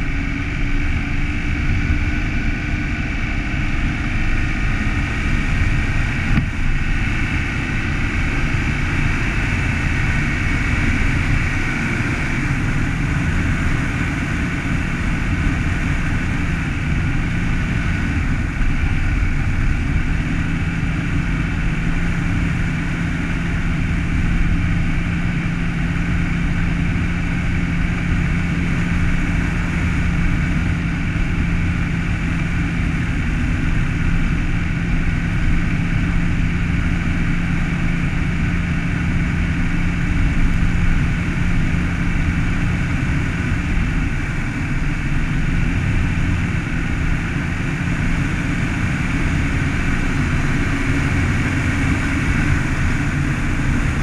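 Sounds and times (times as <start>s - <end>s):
car engine running: 0.0s - 54.0s
tyre and road noise: 0.0s - 54.0s.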